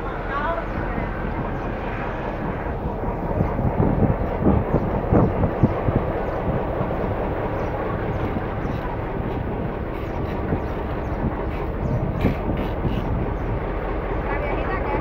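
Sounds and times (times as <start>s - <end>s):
diesel train rolling past: 0.0s - 15.0s.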